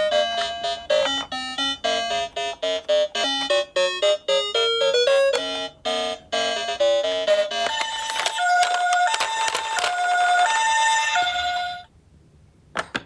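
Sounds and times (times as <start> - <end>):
toy electronic tune: 0.0 - 11.9.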